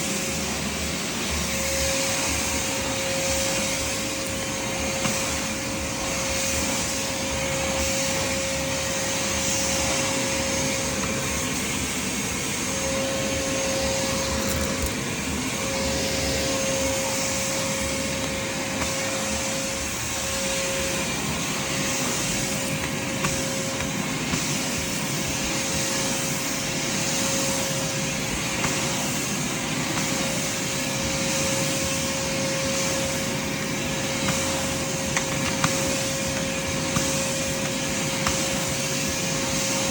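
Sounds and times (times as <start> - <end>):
shop vacuum running: 0.0 - 39.9.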